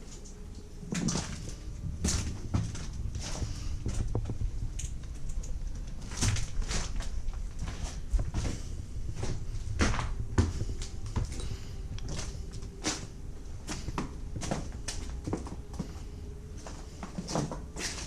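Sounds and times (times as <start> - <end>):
low rumble: 0.0 - 17.8
faint steady hum: 0.0 - 18.0.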